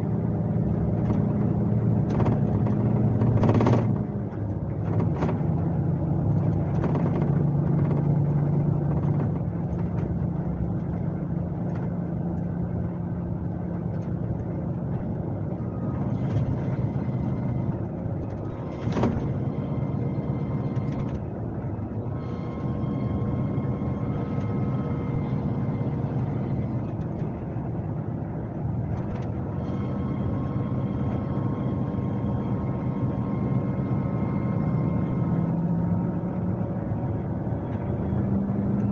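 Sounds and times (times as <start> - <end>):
bus diesel engine drone: 0.0 - 38.9
road noise: 0.0 - 38.9.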